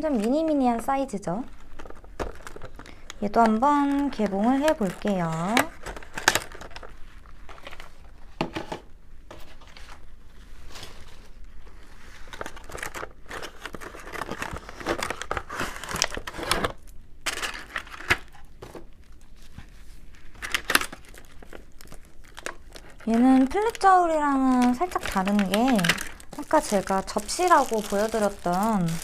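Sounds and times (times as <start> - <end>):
packaging crinkling and tearing: 0.0 - 8.3, 10.6 - 29.0.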